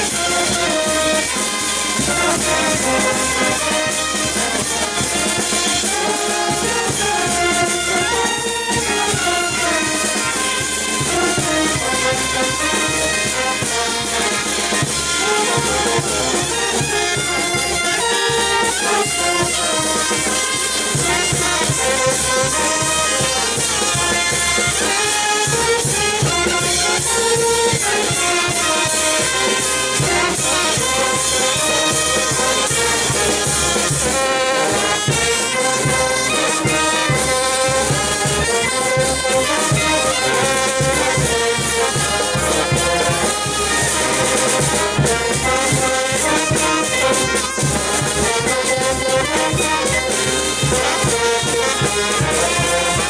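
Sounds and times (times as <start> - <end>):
brass and saxophones melody: 0.0 - 53.0
steady drum beat: 0.0 - 53.0.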